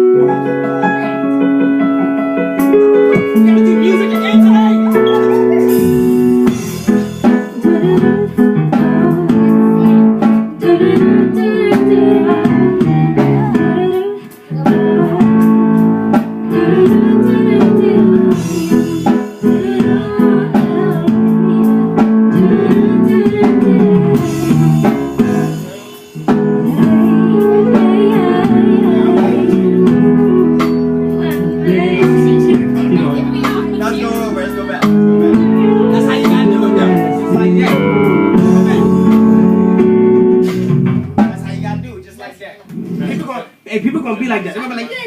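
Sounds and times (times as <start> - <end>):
band rehearsing music: 0.0 - 45.0.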